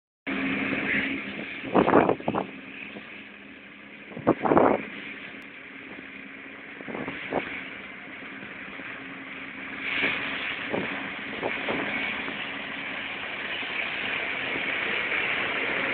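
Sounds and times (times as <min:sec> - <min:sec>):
flail mower cutting: 0:00.3 - 0:15.9
tractor engine hum: 0:00.3 - 0:15.9.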